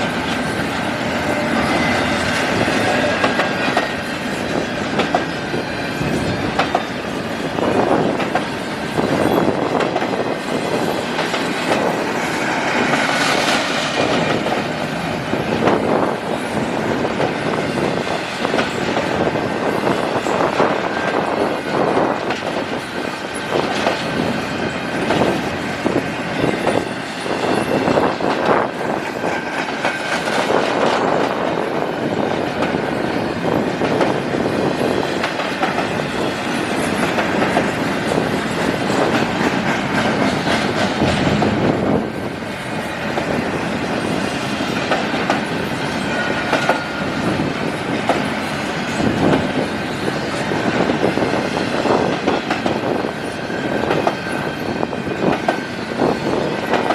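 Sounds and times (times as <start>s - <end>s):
train wheels clicking over rail joints: 0.0s - 56.9s.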